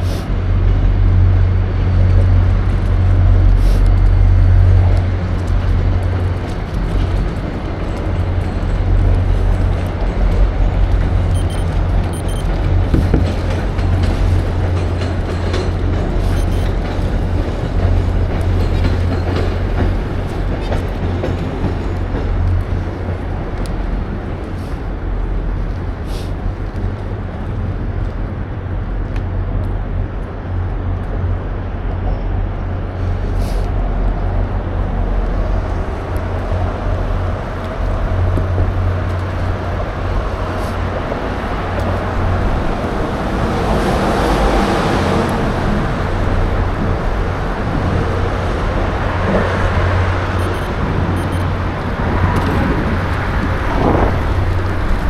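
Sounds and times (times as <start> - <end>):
road and tyre noise: 0.0 - 55.0
wind rumble on microphone: 0.0 - 55.0.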